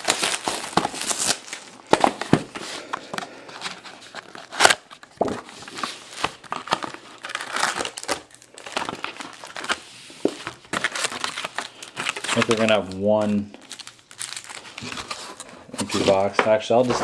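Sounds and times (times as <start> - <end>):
plastic wrapping crinkling and tearing: 0.0 - 17.0.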